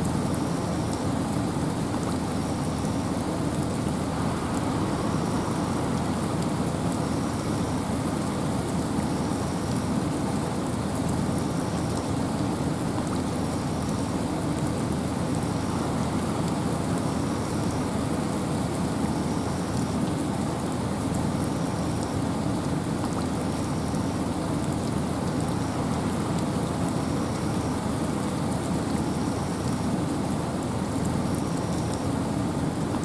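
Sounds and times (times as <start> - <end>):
steady rain: 0.0 - 33.0
wind: 0.0 - 33.0.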